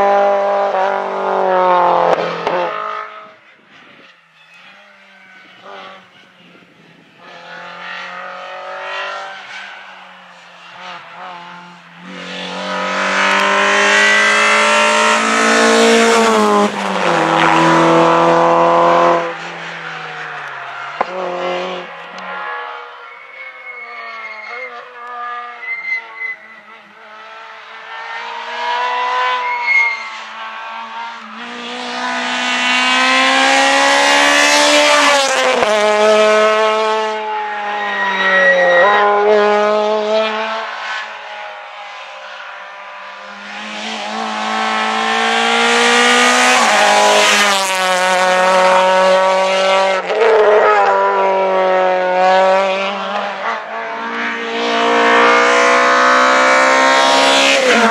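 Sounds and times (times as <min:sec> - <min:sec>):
rally cars at full throttle: 0:00.0 - 0:57.9.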